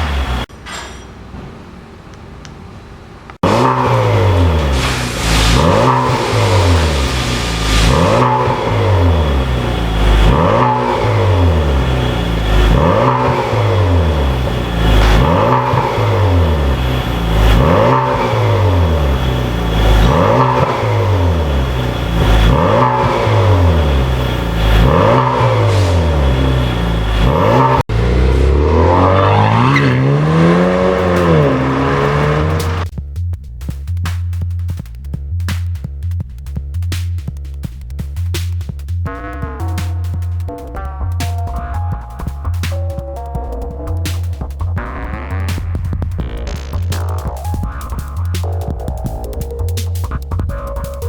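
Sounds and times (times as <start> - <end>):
car engine revving: 0.0 - 0.5, 3.4 - 32.9, 39.1 - 51.0.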